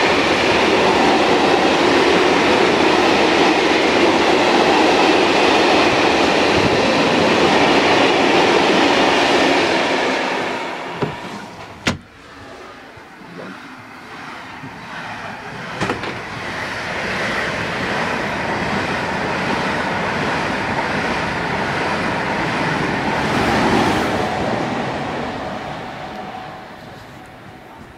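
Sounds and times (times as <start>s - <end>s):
high-speed train rushing past: 0.0s - 27.9s.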